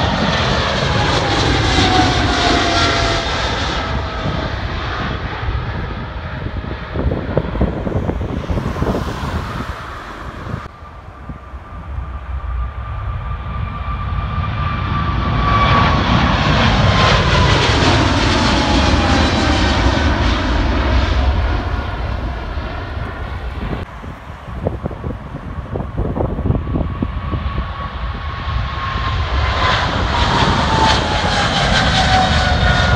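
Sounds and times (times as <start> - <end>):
jet engine whine: 0.0 - 32.9
jet engines roaring overhead: 0.0 - 32.9.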